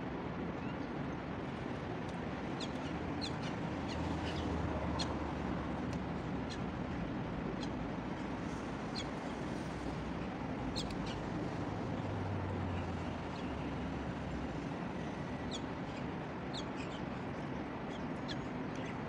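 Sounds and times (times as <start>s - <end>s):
road traffic hum: 0.1s - 19.0s.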